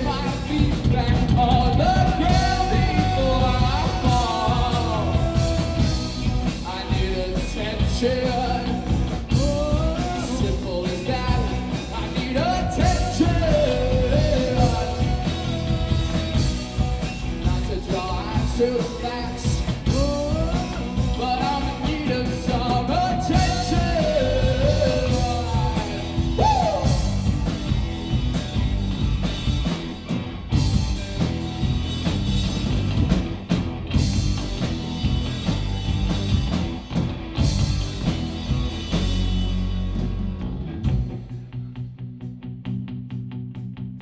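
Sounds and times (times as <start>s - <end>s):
bass guitar: 0.0s - 44.0s
drum kit: 0.0s - 44.0s
electric guitar: 0.0s - 44.0s.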